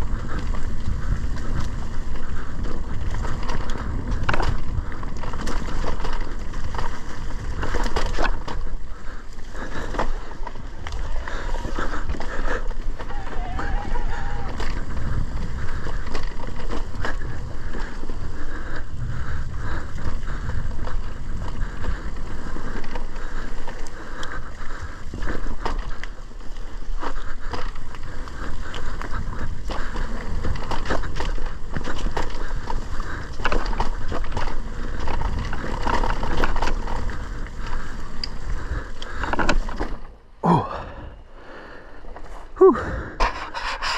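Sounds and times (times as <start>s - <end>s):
bike rattling and knocking: 0.0s - 40.7s
bike tyres on dirt trail: 0.0s - 43.9s.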